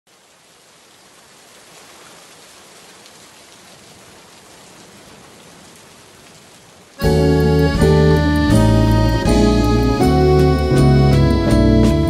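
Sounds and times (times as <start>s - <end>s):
steady rain falling: 0.1s - 12.0s.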